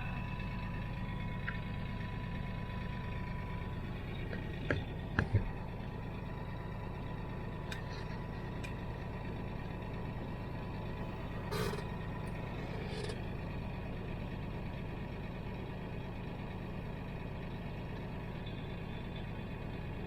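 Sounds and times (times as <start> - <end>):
thin steady whine: 0.0 - 16.9
diesel engine running: 0.0 - 20.0.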